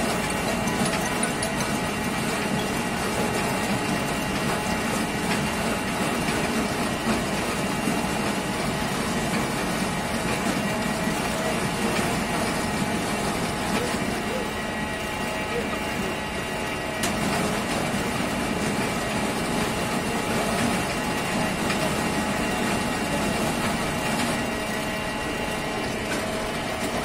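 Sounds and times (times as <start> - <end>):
apple press machinery running: 0.0 - 27.0.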